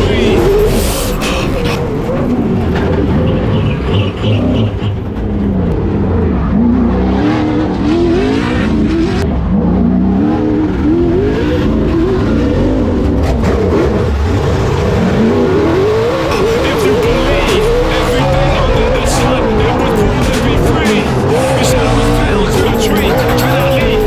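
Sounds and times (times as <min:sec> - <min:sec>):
race engine revving: 0:00.0 - 0:24.0.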